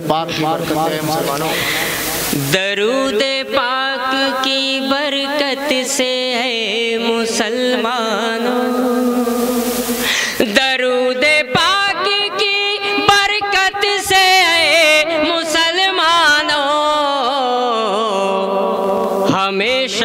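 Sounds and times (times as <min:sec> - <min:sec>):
man singing melodic phrases: 0:00.7 - 0:20.0.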